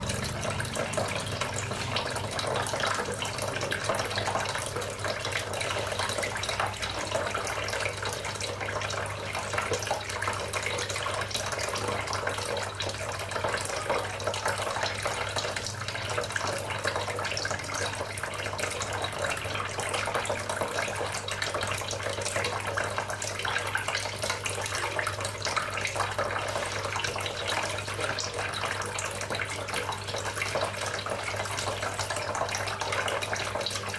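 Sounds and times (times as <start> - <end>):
fountain water trickling: 0.0 - 33.9.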